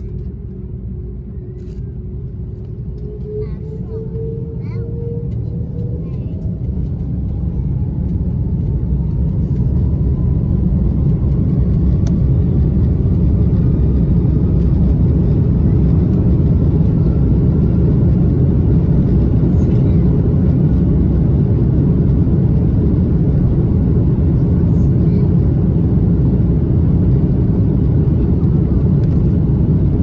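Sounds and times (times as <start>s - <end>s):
aircraft cabin engine rumble: 0.0s - 30.0s.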